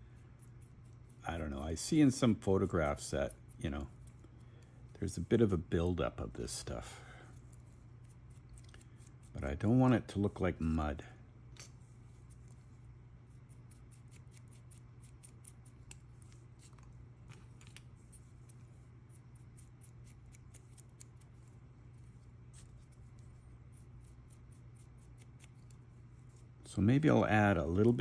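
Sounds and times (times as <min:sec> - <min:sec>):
brush bristles scratching: 0:00.0 - 0:04.3, 0:04.9 - 0:10.8, 0:11.6 - 0:28.0.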